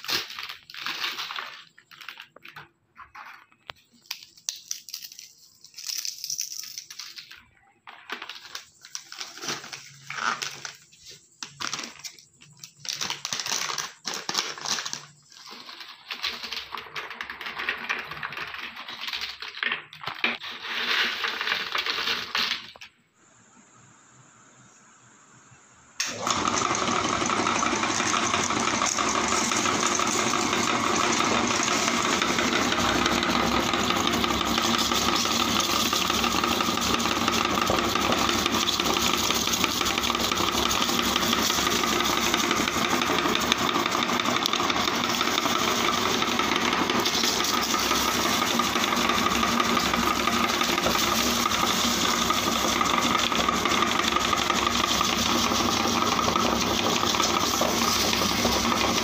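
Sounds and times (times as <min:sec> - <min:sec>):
meat grinder crunching chips: 0:00.0 - 0:22.8, 0:26.0 - 0:59.0.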